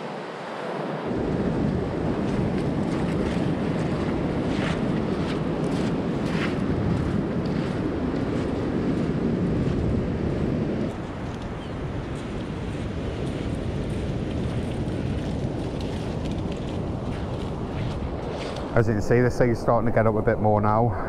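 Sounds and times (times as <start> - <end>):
foamy wash running up sand: 0.0 - 20.7
wind buffeting microphone: 0.9 - 21.0.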